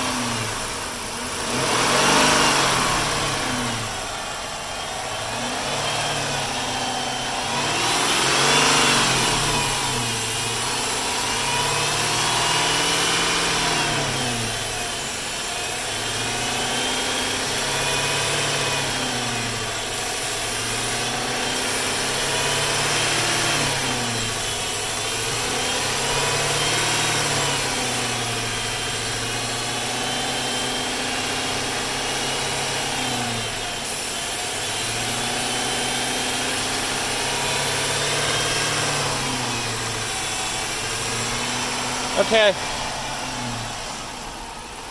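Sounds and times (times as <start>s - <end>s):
car engine hunting idle: 0.0s - 44.9s.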